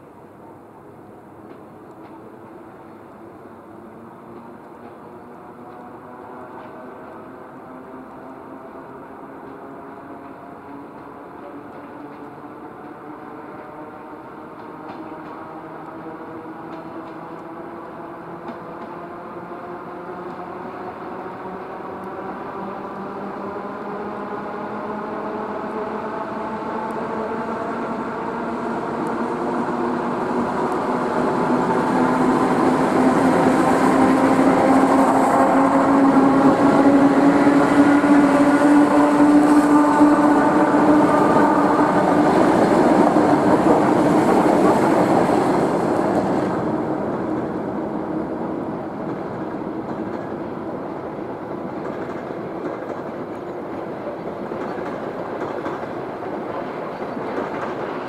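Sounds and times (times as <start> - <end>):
electric train passing: 0.0 - 58.0.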